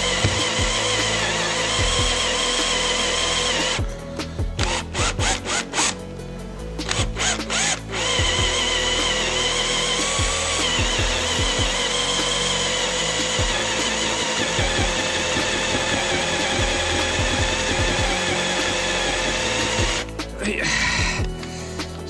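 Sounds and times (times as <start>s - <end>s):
cordless drill whining: 0.0s - 4.0s, 4.6s - 6.0s, 6.8s - 20.2s.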